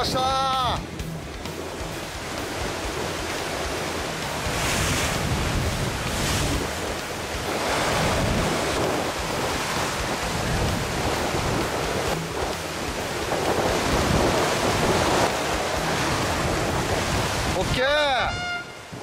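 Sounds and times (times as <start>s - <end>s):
surf washing against rocks: 0.0s - 19.0s
wind on microphone: 1.5s - 19.0s.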